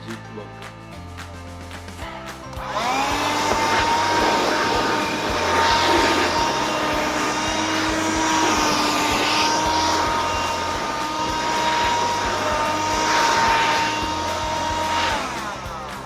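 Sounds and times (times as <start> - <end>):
handheld vacuum running: 2.6 - 16.0.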